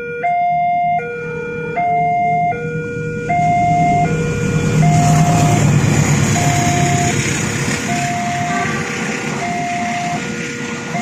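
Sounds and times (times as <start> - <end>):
level crossing alarm: 0.0 - 7.2, 7.8 - 11.0
passing train rumble: 1.1 - 11.0.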